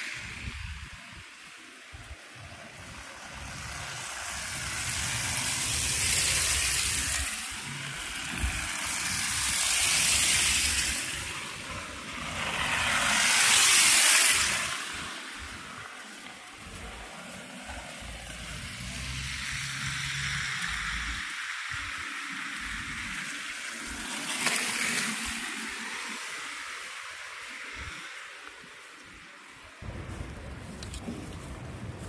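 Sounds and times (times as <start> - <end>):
cars passing with tyre hiss: 0.0 - 32.0.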